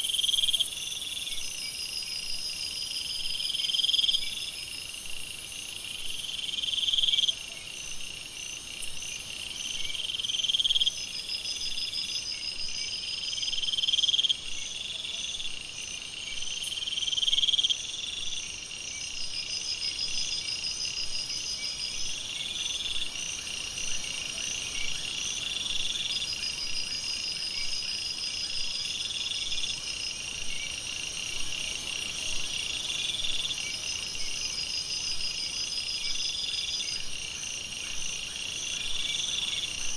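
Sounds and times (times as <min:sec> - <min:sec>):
high insect call: 0:00.0 - 0:39.9.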